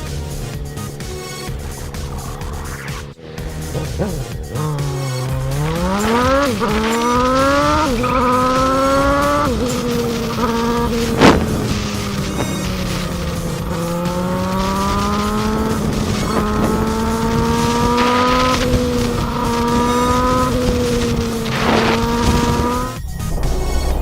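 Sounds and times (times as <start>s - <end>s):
motorcycle engine revving through gears: 0.0s - 24.0s.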